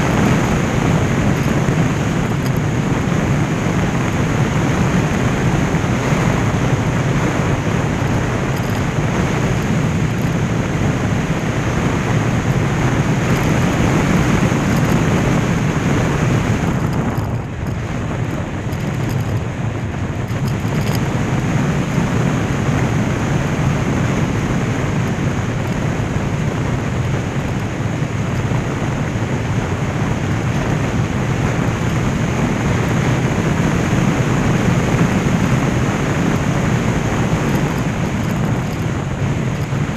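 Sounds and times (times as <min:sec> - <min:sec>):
motorcycle drone: 0:00.0 - 0:39.9
wind buffeting microphone: 0:00.0 - 0:39.9.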